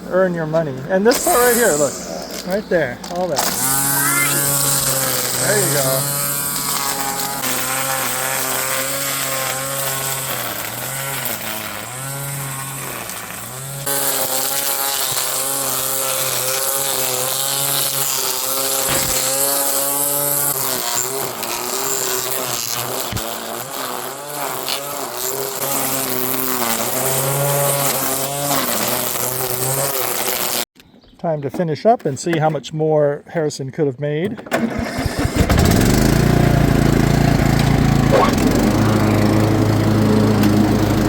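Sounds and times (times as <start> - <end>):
string trimmer running: 1.1 - 30.7, 34.4 - 41.0.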